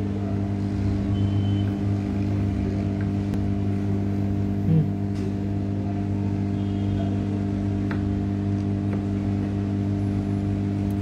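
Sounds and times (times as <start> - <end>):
hot air blower humming: 0.0 - 11.0.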